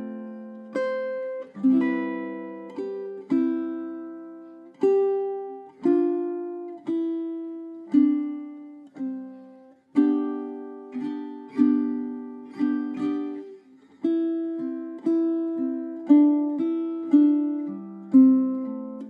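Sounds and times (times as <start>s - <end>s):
ukulele plucked notes and chords: 0.0s - 19.0s.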